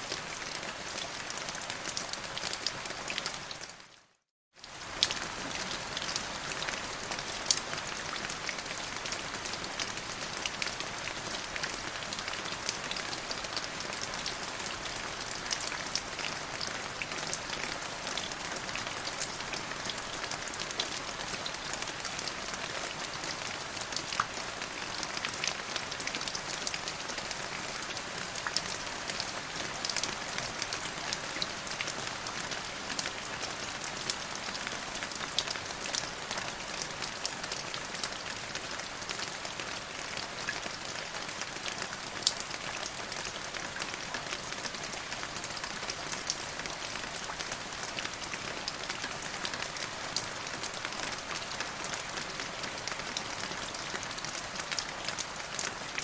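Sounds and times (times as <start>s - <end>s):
steady rain with drop ticks: 0.0s - 56.0s.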